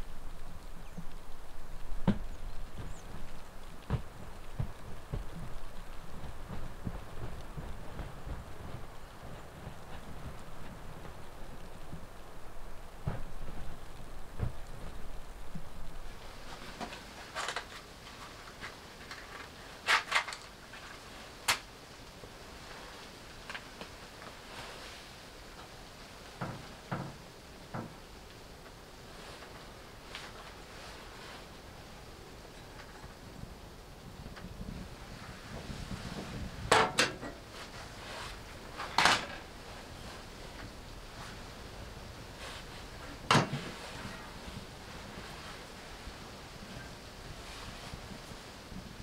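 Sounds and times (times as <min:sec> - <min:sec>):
rustle: 0:00.0 - 0:49.0.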